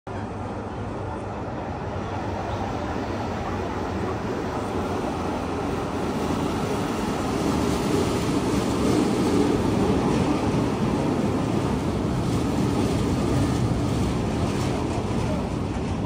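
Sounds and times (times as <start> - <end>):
funicular car rumbling on rails: 0.1 - 16.0.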